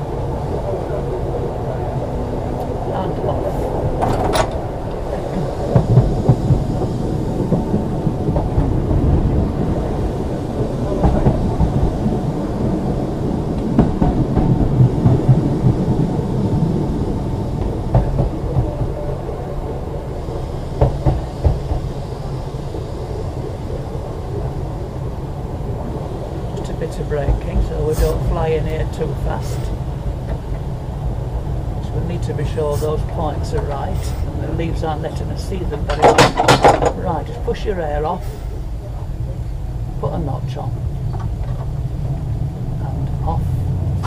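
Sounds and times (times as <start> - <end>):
tram wheels rumbling on rails: 0.0 - 44.0.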